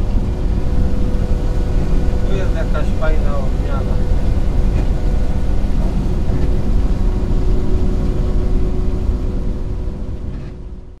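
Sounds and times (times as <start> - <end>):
combine harvester drone: 0.0 - 11.0
steady whining tones: 0.0 - 11.0.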